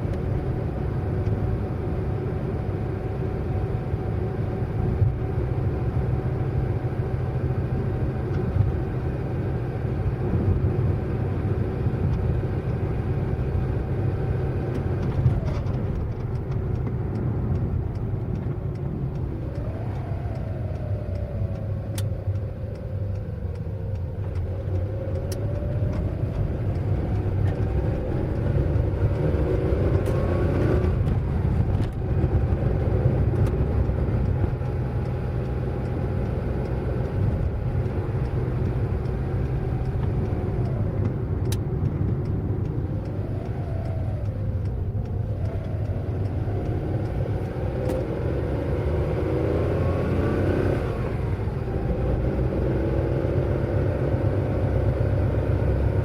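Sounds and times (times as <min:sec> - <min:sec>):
car engine rising and falling: 0:00.0 - 0:56.0
road rumble: 0:00.0 - 0:56.0.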